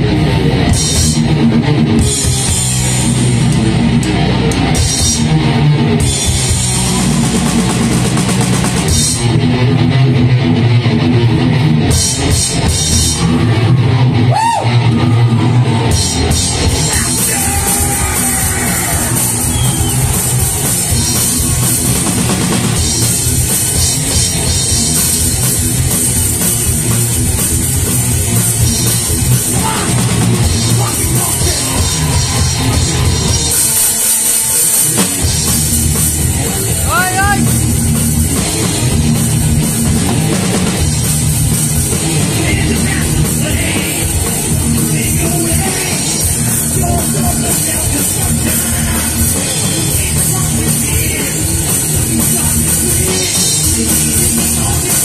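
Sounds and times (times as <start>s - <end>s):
electric guitar: 0.0s - 55.0s
heavy metal band playing: 0.0s - 55.0s
rock drum kit: 0.0s - 55.0s.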